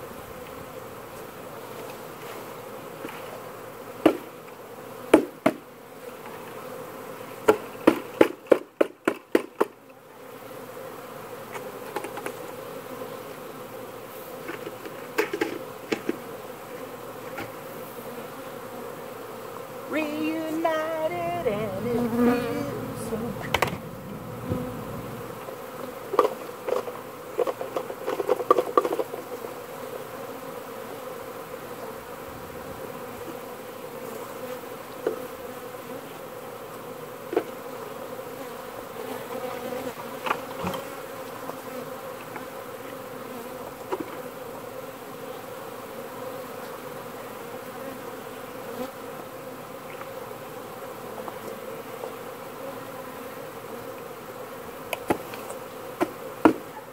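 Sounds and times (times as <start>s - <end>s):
honeybees buzzing: 0.0s - 56.9s.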